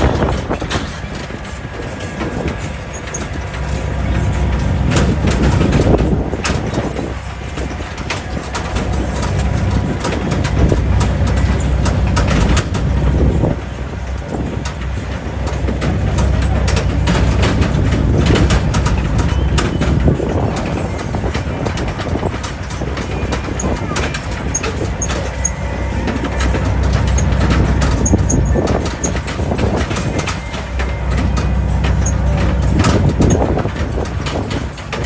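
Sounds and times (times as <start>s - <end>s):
rattling and knocks: 0.0s - 35.0s
tractor engine running: 0.0s - 35.0s.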